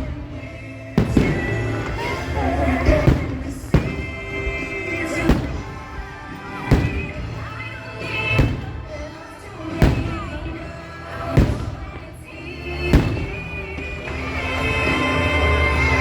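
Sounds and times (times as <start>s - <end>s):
deep firework bursts: 0.0s - 16.0s
music with singing: 0.0s - 16.0s.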